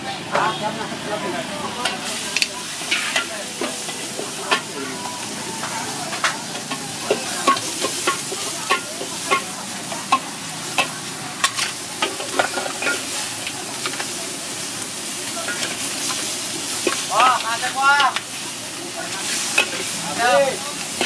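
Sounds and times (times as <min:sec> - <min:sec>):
crab sizzling in a wok: 0:00.0 - 0:21.0
metal utensil scraping wok: 0:00.2 - 0:21.0.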